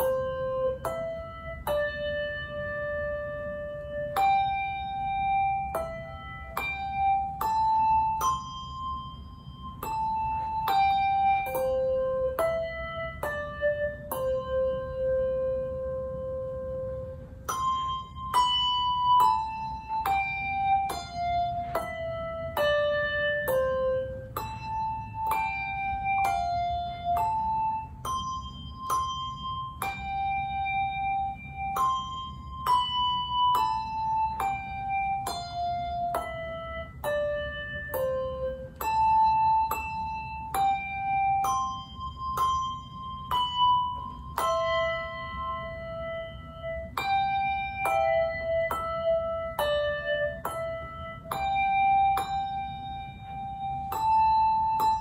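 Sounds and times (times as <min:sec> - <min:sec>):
handbell melody: 0:00.0 - 0:55.0.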